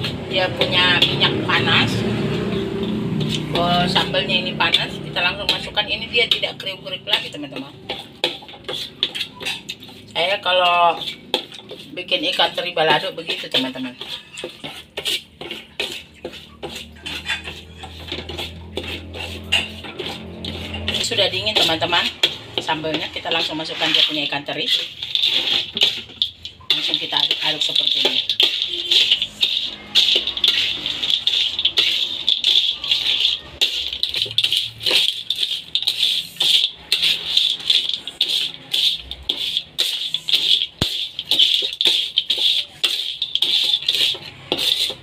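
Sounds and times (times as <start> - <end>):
metal spoon scraping a wok: 0.0 - 45.0.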